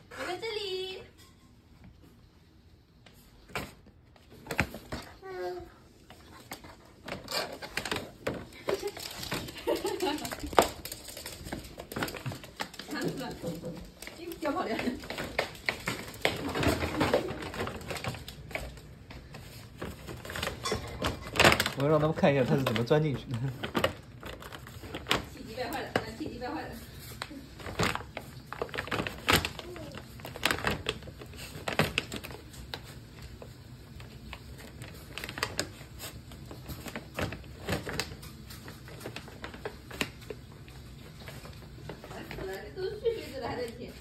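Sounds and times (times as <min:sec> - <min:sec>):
crinkling plastic bag: 0:06.2 - 0:44.0.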